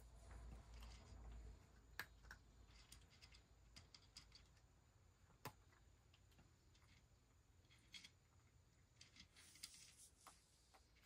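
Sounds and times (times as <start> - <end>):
cat eating from a dish: 0.2 - 9.9.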